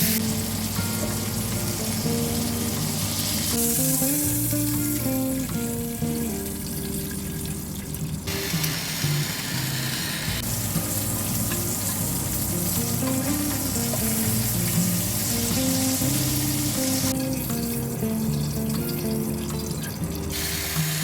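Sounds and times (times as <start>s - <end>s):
background music: 0.0s - 21.0s
meat sizzling in a pan: 0.0s - 21.0s.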